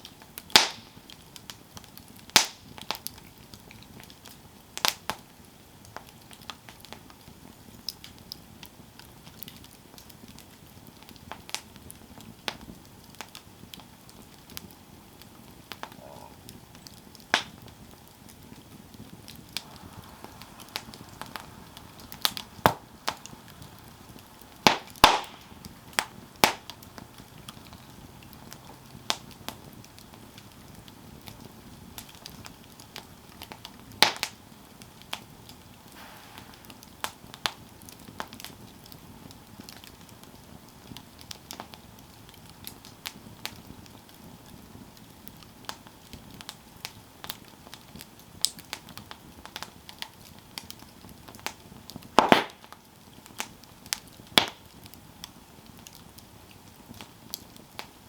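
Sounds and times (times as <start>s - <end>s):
campfire crackling and popping: 0.0s - 58.0s
low steady fire hiss: 0.0s - 58.0s.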